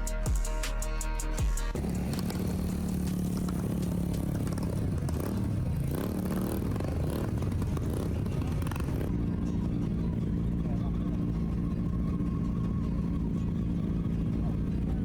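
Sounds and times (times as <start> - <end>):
motorcycle engine running: 1.2 - 15.0.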